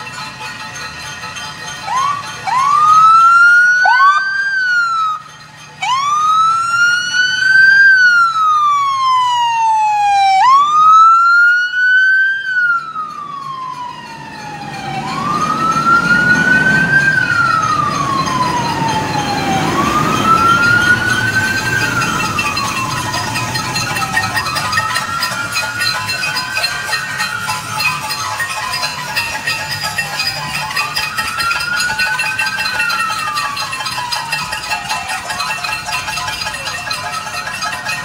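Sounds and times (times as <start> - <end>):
fire engine rumbling past: 0.0 - 38.0
emergency siren wailing: 1.7 - 38.0
siren chirps: 1.8 - 38.0.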